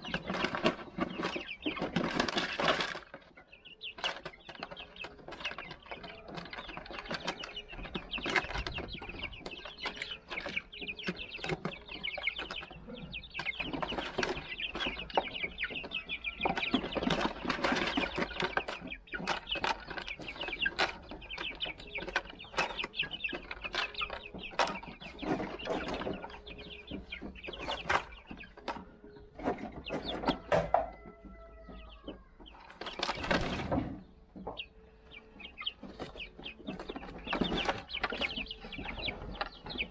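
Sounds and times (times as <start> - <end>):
beaks pecking: 0.0 - 30.5, 31.1 - 39.9
chicks cheeping: 0.0 - 39.9.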